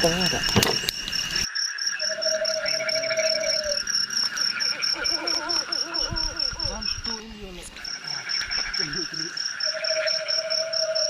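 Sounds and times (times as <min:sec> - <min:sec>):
held mid-pitched insect call: 0:00.0 - 0:11.0
insects chirping: 0:00.0 - 0:11.0
steady high insect buzz: 0:00.0 - 0:11.0
wavering insect calls: 0:00.0 - 0:11.0.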